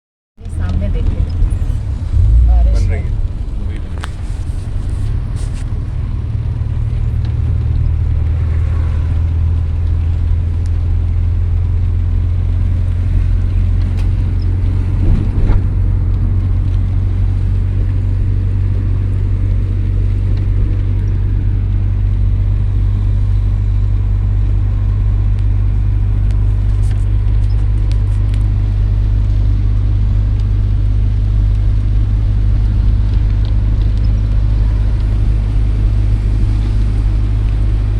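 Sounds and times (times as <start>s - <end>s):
loud low rumble: 0.4s - 37.9s.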